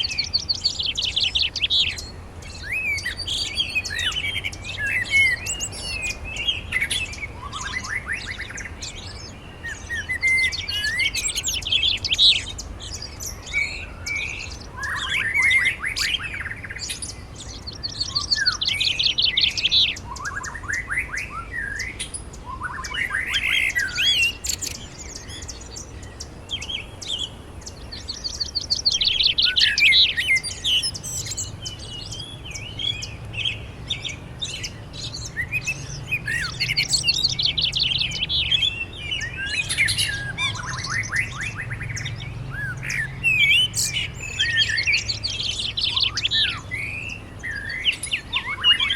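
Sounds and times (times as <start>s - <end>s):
songbirds singing and chirping: 0.0s - 48.9s.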